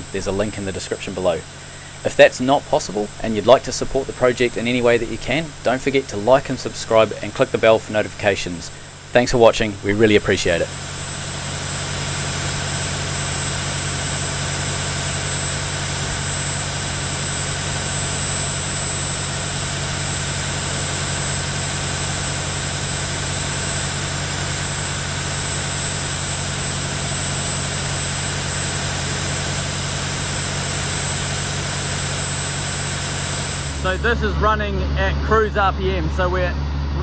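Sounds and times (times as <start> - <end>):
diesel engine running under load: 0.0 - 37.0
high-pitched whine: 0.0 - 37.0.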